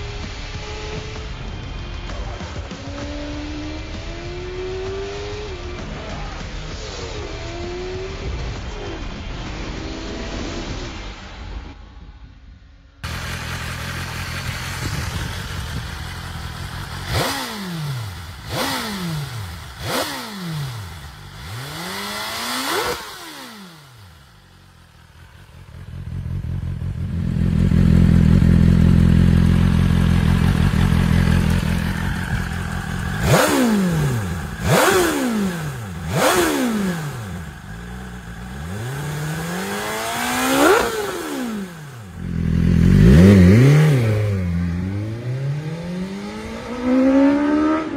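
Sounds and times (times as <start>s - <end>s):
motorcycle engine revving: 0.0s - 10.8s, 13.0s - 47.9s.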